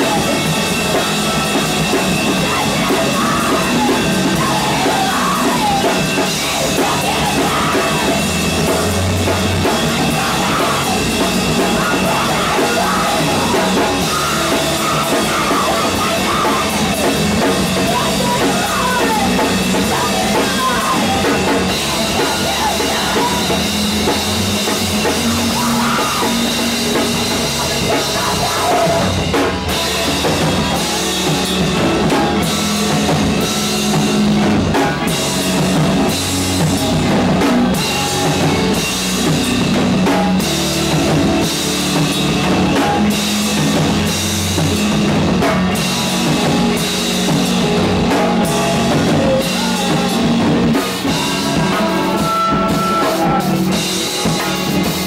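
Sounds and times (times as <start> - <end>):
drum kit with cymbal crashes: 0.0 - 55.0
rock band playing: 0.0 - 55.0.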